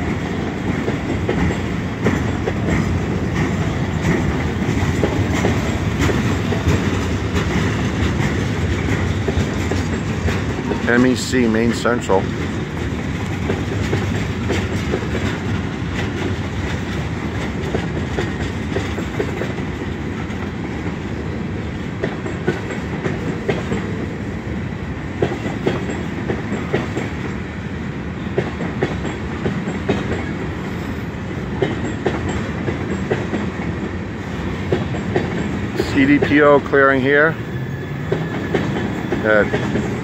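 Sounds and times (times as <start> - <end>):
wheels clicking over rail joints: 0.0 - 27.5, 28.2 - 40.0
train wheels rumbling on rail: 0.0 - 40.0.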